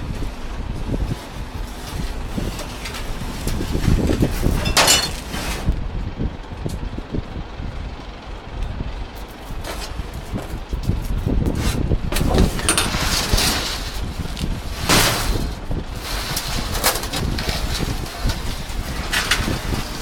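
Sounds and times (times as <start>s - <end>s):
heavy machinery rumbling: 0.0s - 20.0s.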